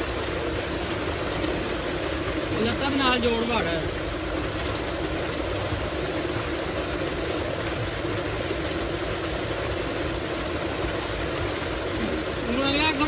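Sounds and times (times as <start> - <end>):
pump humming: 0.0 - 13.0
water gushing into a tank: 0.0 - 13.0.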